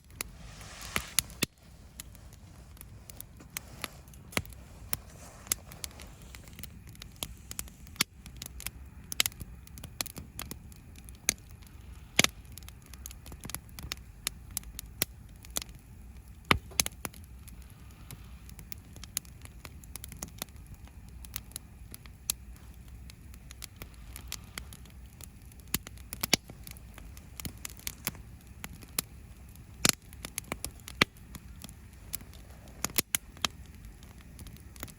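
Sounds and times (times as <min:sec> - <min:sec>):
campfire crackling and popping: 0:00.0 - 0:34.9
steady low rumble: 0:00.0 - 0:34.9.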